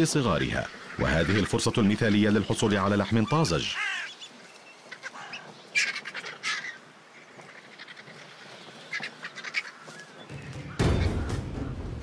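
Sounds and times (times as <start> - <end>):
vultures croaking and hissing: 0.0 - 10.8.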